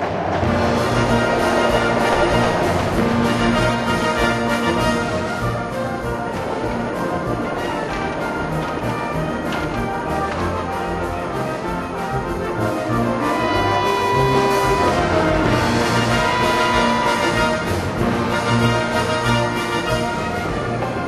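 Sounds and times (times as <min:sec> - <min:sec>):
orchestral music led by brass: 0:00.0 - 0:21.0.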